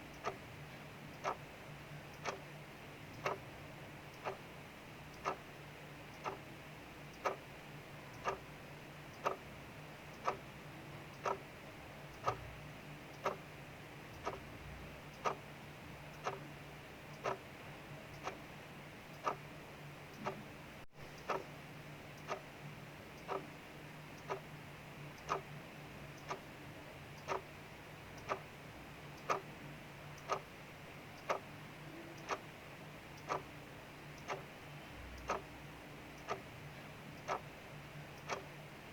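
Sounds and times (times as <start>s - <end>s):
mechanical clock ticking: 0.0s - 38.8s.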